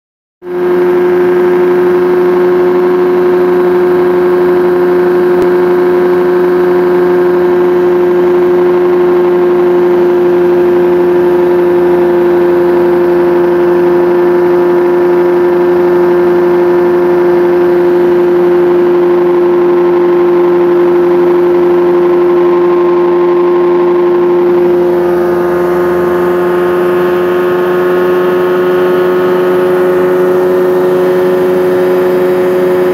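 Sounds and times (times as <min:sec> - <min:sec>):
aircraft engine droning: 0:00.5 - 0:32.9.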